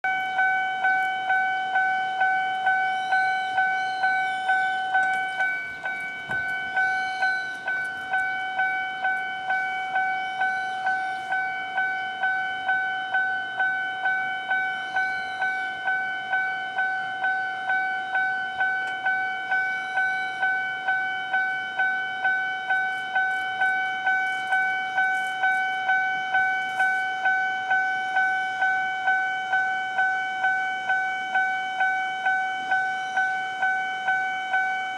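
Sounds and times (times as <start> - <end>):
level crossing warning bell: 0.0 - 34.9.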